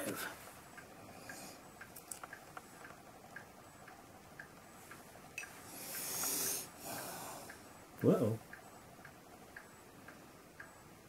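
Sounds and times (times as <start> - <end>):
faint light ticking: 0.1 - 11.0.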